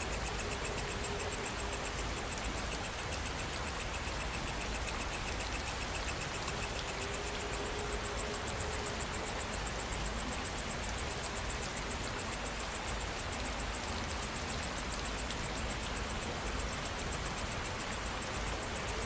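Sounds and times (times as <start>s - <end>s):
insects chirring: 0.0s - 19.0s
steady rain falling: 0.0s - 19.0s.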